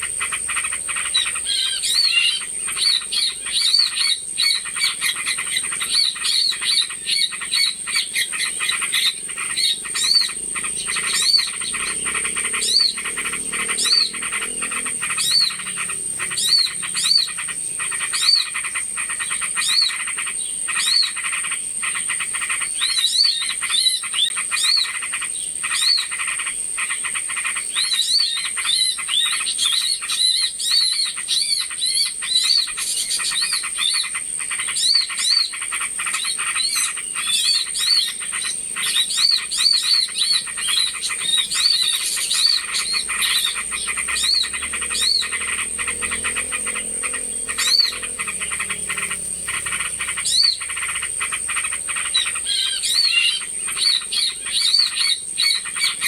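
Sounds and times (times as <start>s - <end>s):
small birds chattering: 0.0s - 56.0s.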